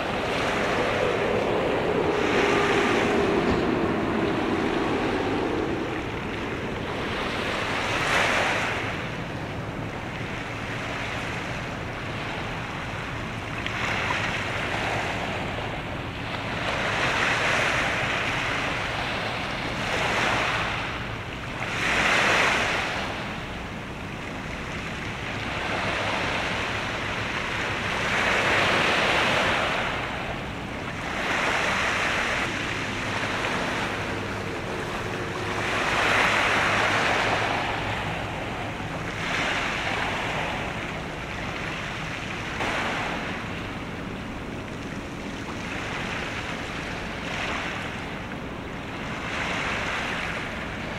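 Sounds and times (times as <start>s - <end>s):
waves washing against shore: 0.0s - 50.9s.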